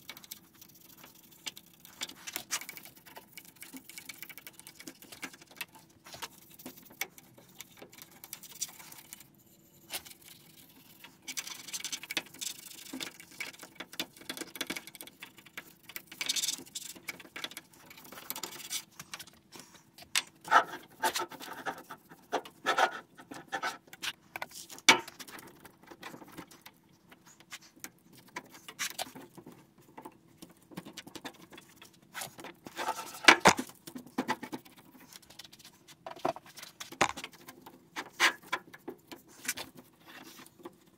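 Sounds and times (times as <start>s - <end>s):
scrubbing and scratching: 0.0s - 40.9s.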